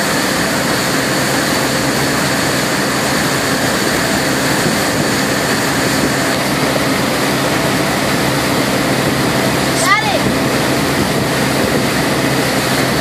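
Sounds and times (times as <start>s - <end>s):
boat engine running: 0.0s - 13.0s
churning wake water rushing: 0.0s - 13.0s.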